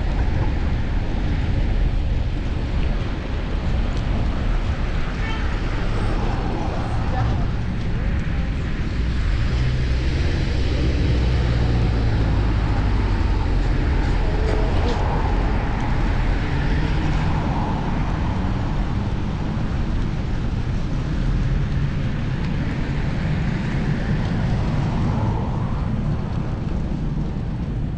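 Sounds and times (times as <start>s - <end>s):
passing cars: 0.0s - 27.9s
wind and road rumble: 0.0s - 27.9s.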